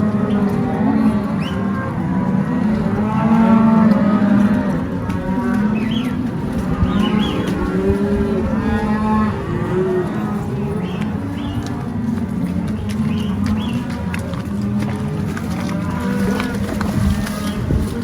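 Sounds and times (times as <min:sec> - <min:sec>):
cattle mooing and bawling: 0:00.0 - 0:18.0.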